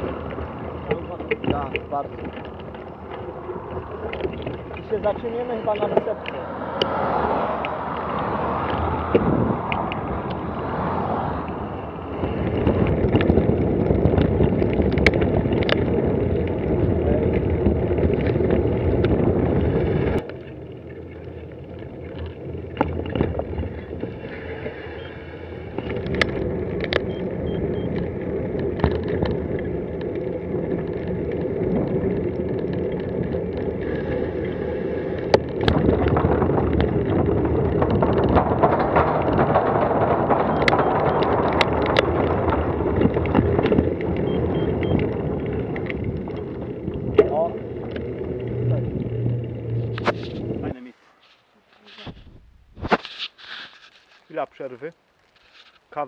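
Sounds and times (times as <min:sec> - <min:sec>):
clicks and knocks from bumps: 0:00.0 - 0:06.9, 0:12.2 - 0:24.2, 0:25.7 - 0:27.2, 0:27.8 - 0:56.0
wind rushing over microphone: 0:00.0 - 0:20.3, 0:22.5 - 0:50.8, 0:52.0 - 0:53.1
bicycle tyre rumble: 0:00.0 - 0:56.0.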